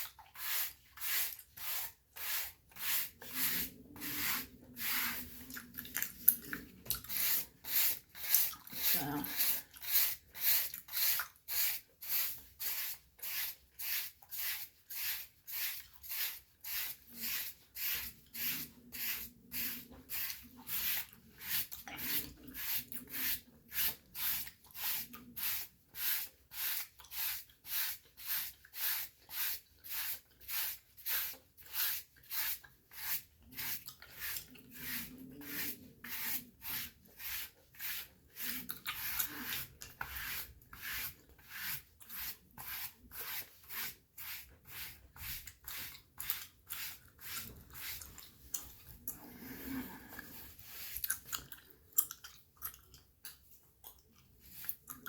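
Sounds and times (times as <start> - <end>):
brush scrubbing skin: 0.0 - 51.6, 54.2 - 55.0.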